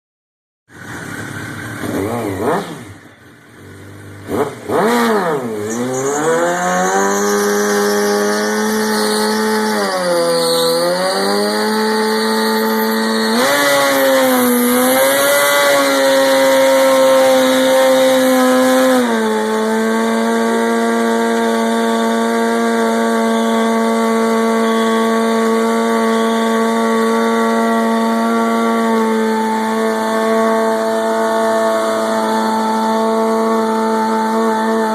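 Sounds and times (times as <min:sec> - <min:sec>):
motorcycle engine revving: 0:00.7 - 0:34.9.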